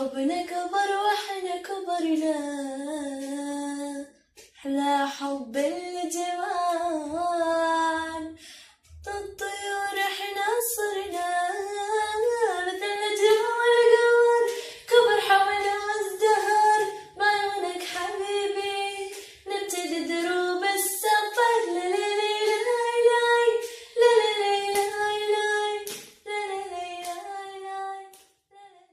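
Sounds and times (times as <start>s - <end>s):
woman singing unaccompanied: 0.0s - 8.4s, 9.0s - 28.9s.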